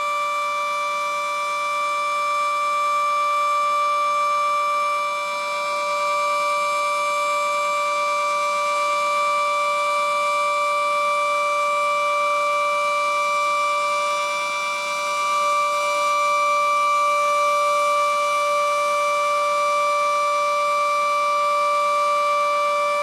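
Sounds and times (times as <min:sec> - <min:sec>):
steady warning siren: 0:00.0 - 0:23.0.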